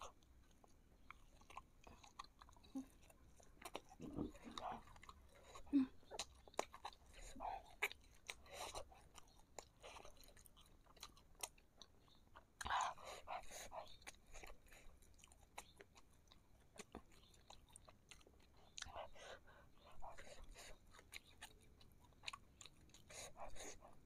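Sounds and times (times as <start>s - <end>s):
chewing with wet mouth smacks: 0.0s - 24.0s.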